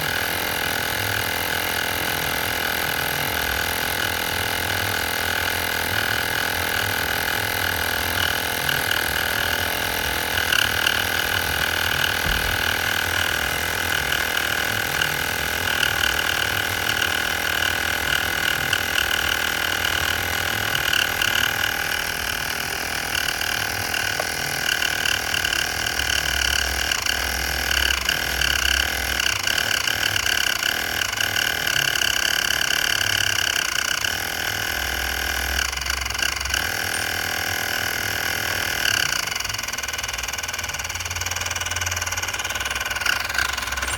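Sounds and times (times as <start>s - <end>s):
motor running with high whine: 0.0s - 43.9s.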